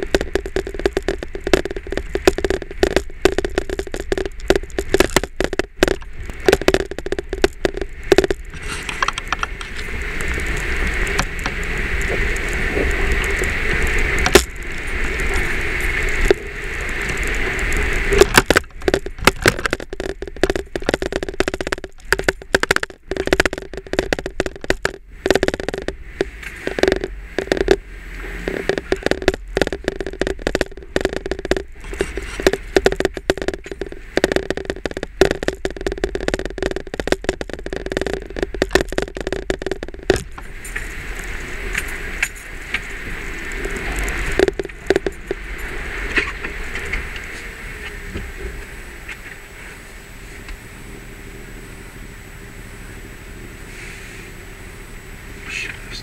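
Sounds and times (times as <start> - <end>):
camera chattering against windshield: 0.0 - 48.4
low rumble of car driving: 0.0 - 56.0
steady hiss: 0.0 - 56.0.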